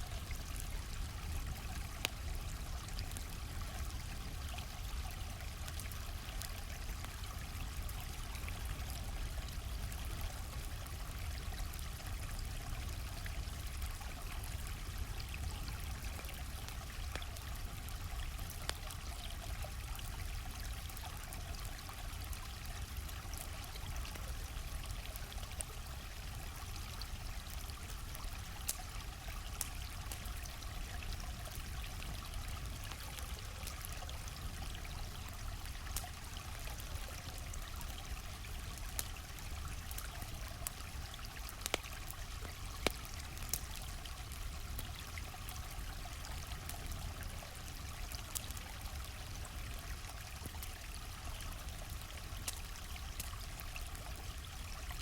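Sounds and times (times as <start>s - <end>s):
campfire crackling: 0.0s - 55.0s
stream flowing: 0.0s - 55.0s.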